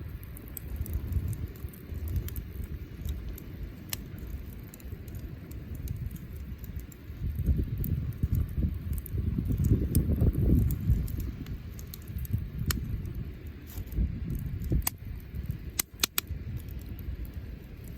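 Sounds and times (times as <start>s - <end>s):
bonfire crackling and popping: 0.0s - 17.9s
low fire rumble: 0.0s - 17.9s.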